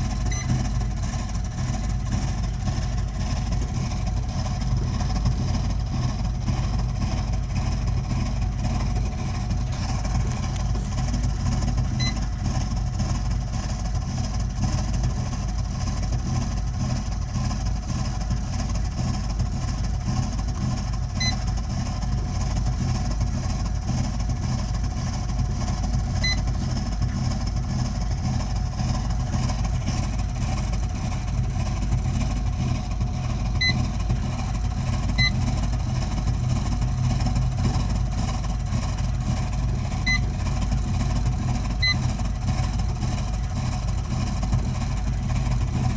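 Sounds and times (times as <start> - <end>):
boiler low rumble: 0.0 - 45.9.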